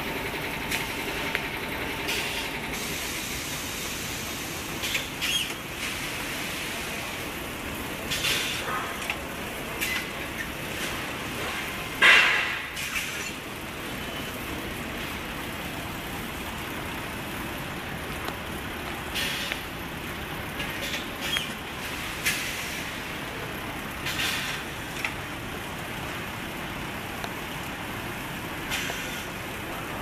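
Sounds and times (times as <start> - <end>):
bag filling machine running: 0.0 - 30.0.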